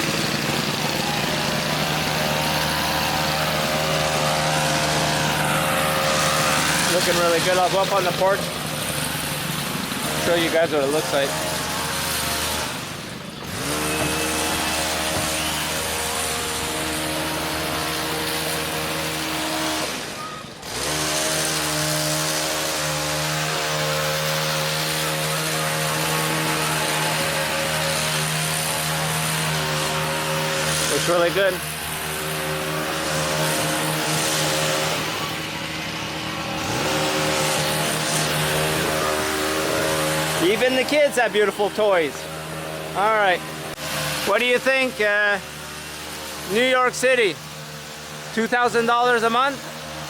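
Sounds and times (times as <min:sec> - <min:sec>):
hedge trimmer engine running: 0:00.0 - 0:50.0.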